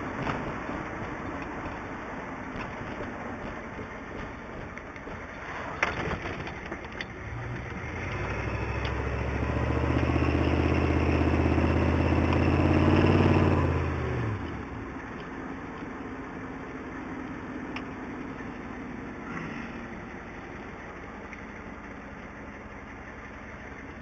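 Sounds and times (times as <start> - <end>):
diesel engine driving: 0.0 - 24.0.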